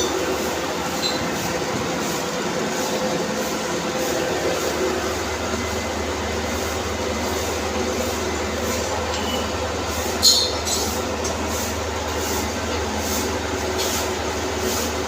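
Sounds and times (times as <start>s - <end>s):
cnc machine running: 0.0s - 13.6s.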